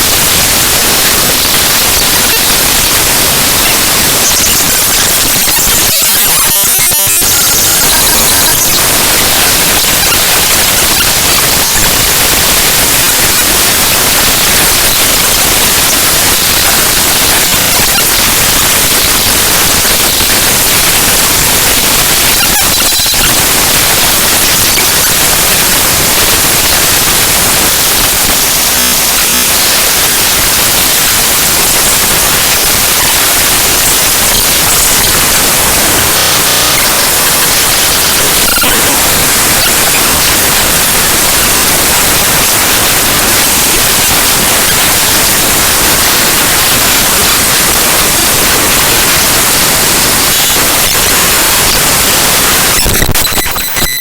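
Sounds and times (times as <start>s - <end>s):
harsh static: 0.0s - 54.0s.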